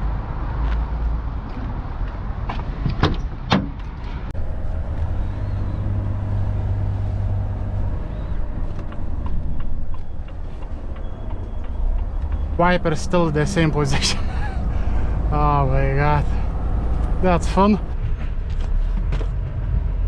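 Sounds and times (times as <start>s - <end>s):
lorry engine rumbling: 2.9s - 20.0s.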